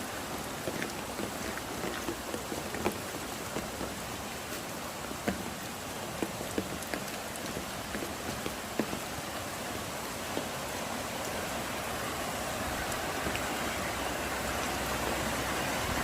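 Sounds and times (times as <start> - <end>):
rain hissing: 0.0 - 16.0
raindrops ticking: 0.0 - 16.0.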